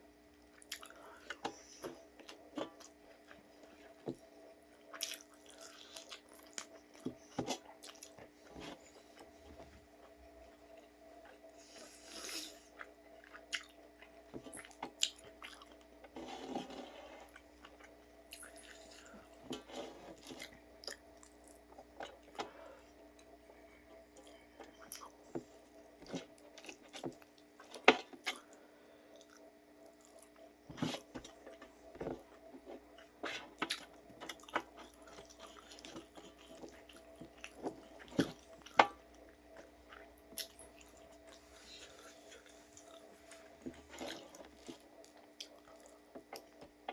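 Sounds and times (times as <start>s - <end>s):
steady hum: 0.0s - 46.9s
person chewing: 0.5s - 46.7s.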